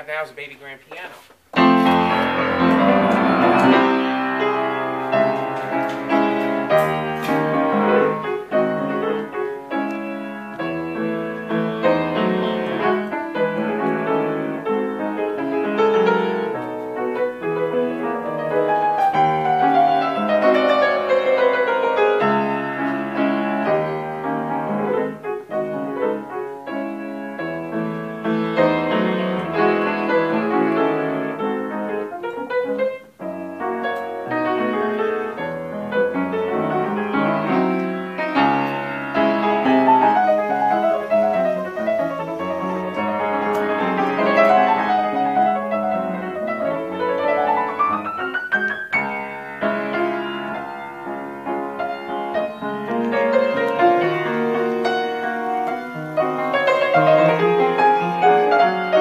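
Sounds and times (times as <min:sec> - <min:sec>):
piano piece with quick notes: 0:00.0 - 0:59.0.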